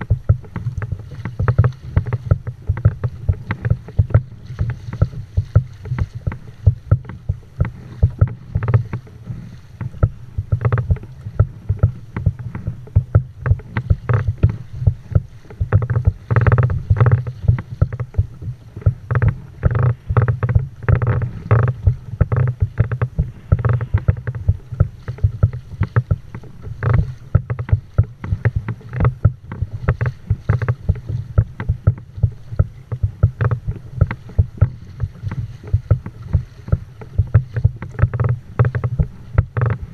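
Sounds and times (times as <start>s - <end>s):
steady low rumble: 0.0s - 39.9s
water slapping against kayak hull: 0.0s - 39.9s.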